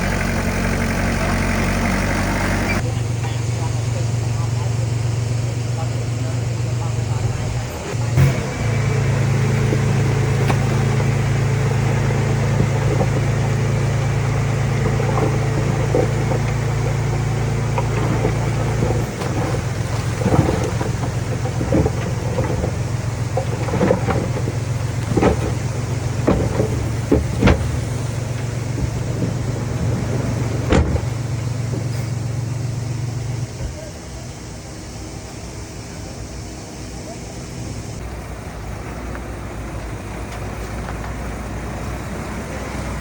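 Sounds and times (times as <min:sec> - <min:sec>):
heavy diesel engine droning: 0:00.0 - 0:43.0.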